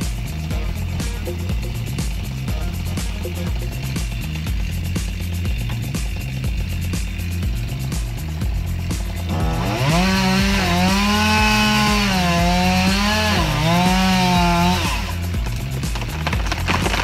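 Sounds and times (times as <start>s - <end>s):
chainsaw running at high revs: 0.0s - 17.0s
music with steady beat: 0.0s - 17.0s.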